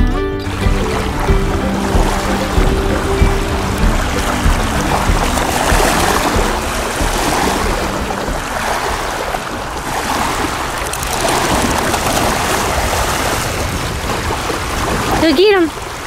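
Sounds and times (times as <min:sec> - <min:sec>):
water lapping and splashing: 0:00.4 - 0:16.0.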